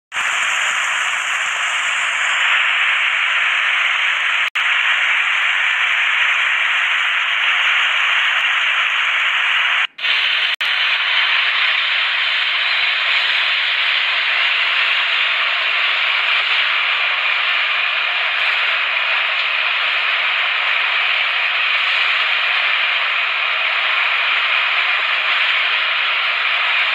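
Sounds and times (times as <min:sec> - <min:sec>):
static hiss: 0:00.1 - 0:26.9.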